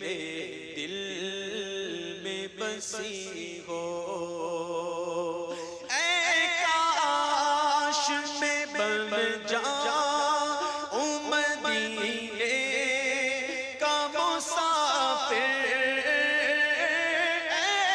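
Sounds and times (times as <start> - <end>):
person singing devotional song: 0.0 - 17.9.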